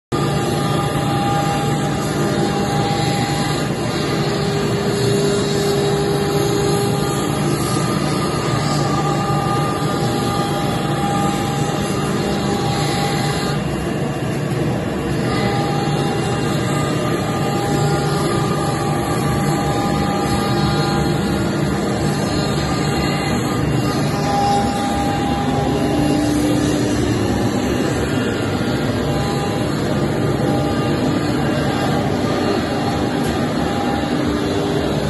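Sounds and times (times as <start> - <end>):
cnc router milling plywood: 0.1 - 35.0.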